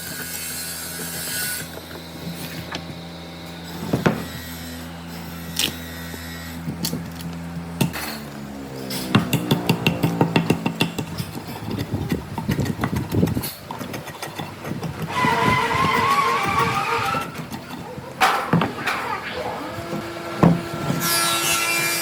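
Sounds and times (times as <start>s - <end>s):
machine hum: 0.5s - 22.0s.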